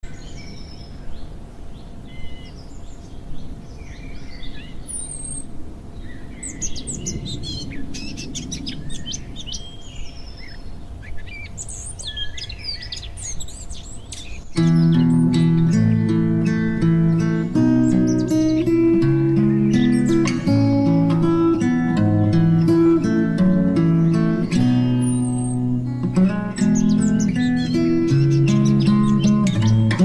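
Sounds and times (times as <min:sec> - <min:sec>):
birds chirping and calling: 0:00.0 - 0:30.0.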